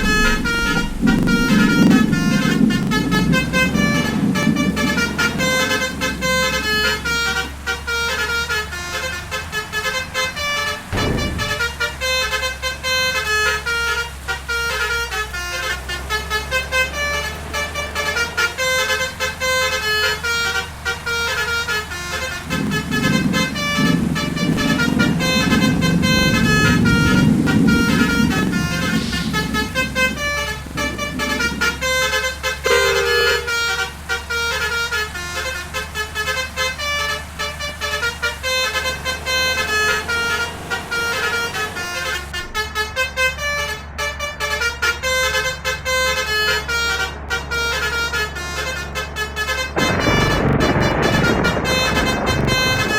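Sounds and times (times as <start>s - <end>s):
low rumble: 0.0s - 44.4s, 49.6s - 52.9s
bus engine running: 0.0s - 52.9s
musical air horn playing tune: 0.0s - 52.9s.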